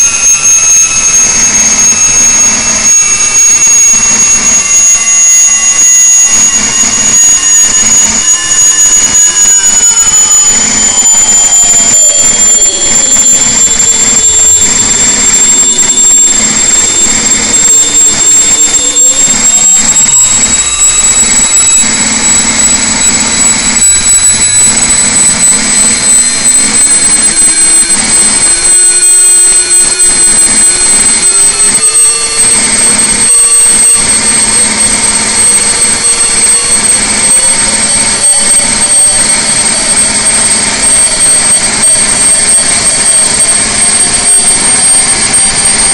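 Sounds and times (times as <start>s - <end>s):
diesel engine at full throttle: 0.0s - 45.9s
turbocharger whine rising: 0.0s - 45.9s.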